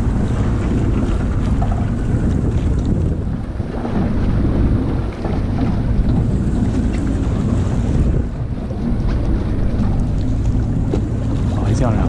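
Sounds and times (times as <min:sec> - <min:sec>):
sea washing around boat: 0:00.0 - 0:12.0
wind buffeting microphone: 0:00.0 - 0:12.0.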